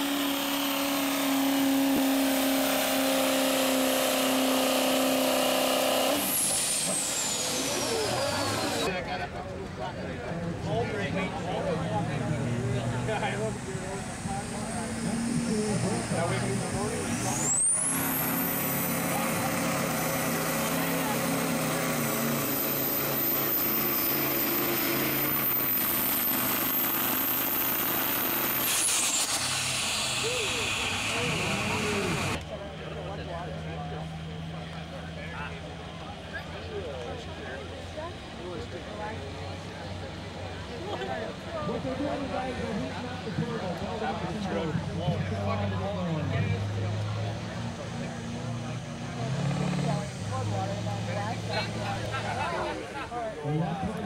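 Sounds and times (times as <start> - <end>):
diesel truck engine at high revs: 0.0 - 9.6, 10.2 - 54.0.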